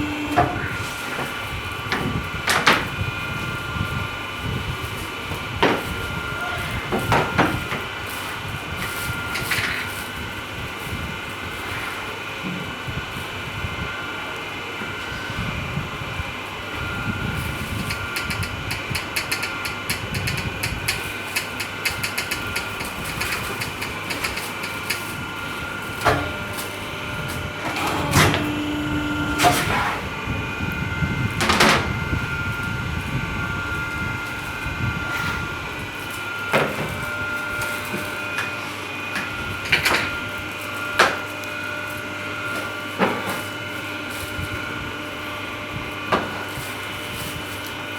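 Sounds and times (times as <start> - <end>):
hydraulic whine and hum: 0.0 - 47.9.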